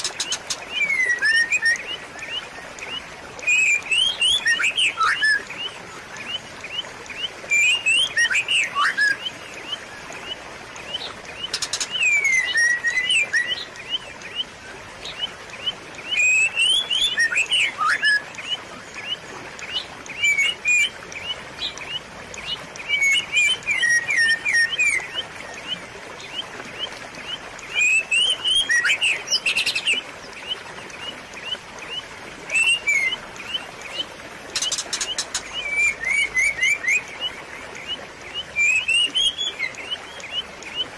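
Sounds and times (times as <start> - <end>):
songbird singing: 0.0 - 40.9
trickling water hiss: 0.0 - 40.9.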